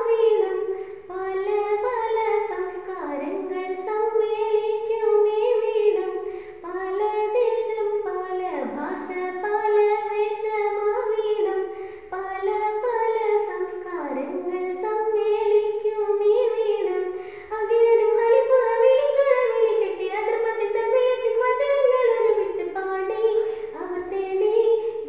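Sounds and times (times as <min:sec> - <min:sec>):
girl singing slow melody: 0:00.0 - 0:25.0.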